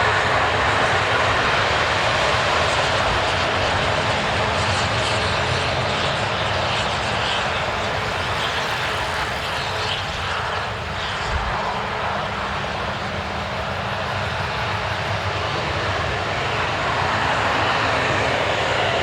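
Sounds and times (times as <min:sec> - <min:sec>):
jet engines roaring at take-off: 0:00.0 - 0:19.0.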